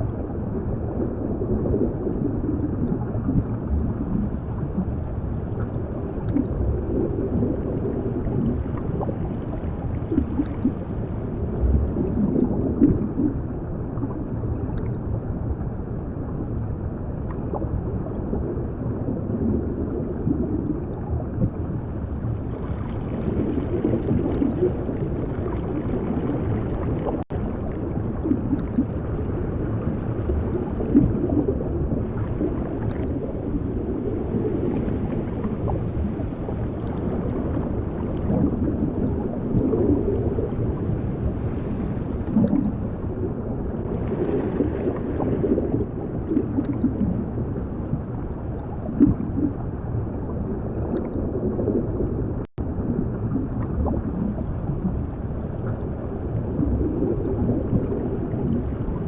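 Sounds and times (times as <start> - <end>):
gurgling bubbles: 0.0 - 59.0
underwater low rumble: 0.0 - 59.0.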